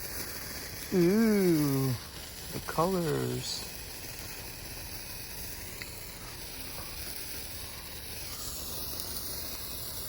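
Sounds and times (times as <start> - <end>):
firework sparks hissing: 0.0 - 10.0.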